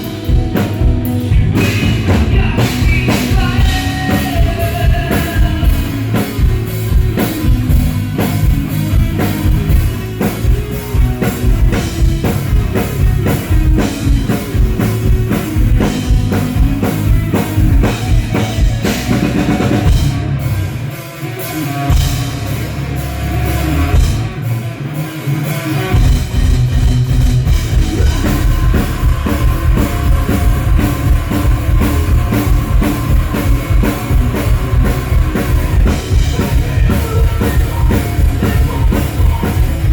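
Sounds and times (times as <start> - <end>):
low bass notes: 0.0 - 20.9, 21.9 - 24.8, 25.9 - 39.9
drum kit beat: 0.0 - 39.9
rock band playing: 0.0 - 39.9.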